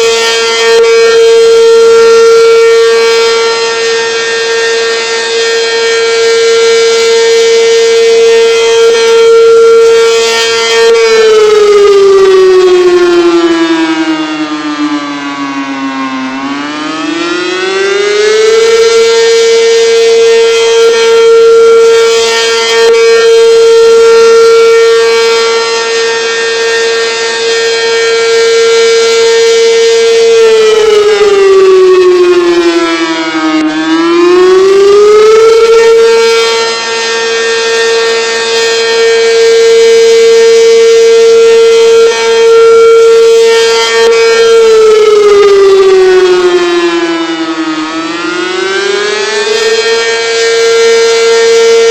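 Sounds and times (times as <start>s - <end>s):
civil defense siren wailing: 0.0s - 51.9s.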